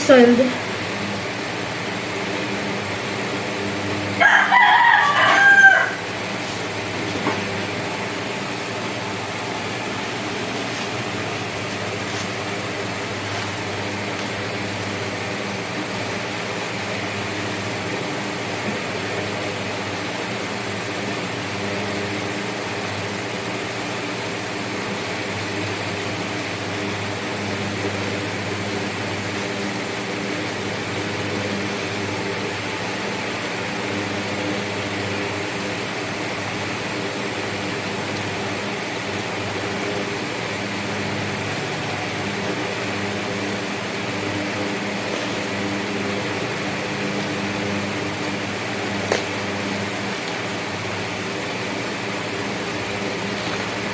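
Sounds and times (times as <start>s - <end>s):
mechanical hum: 0.0s - 53.9s.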